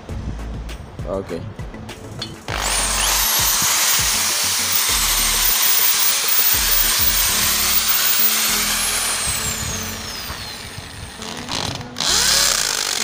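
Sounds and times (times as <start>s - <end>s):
hammer drill boring into concrete: 2.5s - 13.0s.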